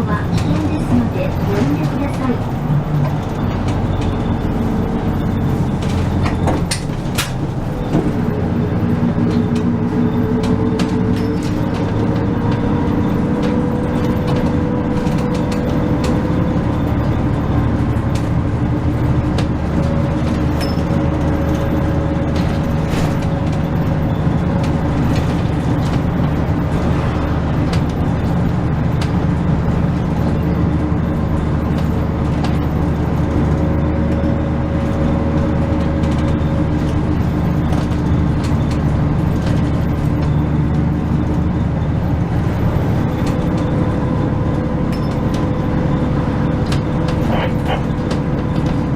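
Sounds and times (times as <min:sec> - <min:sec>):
bus engine hum: 0:00.0 - 0:48.9
road rumble: 0:00.0 - 0:48.9.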